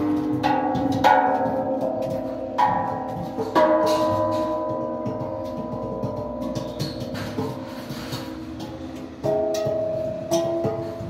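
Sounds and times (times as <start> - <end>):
gas cylinders struck like bells: 0.0 - 11.0.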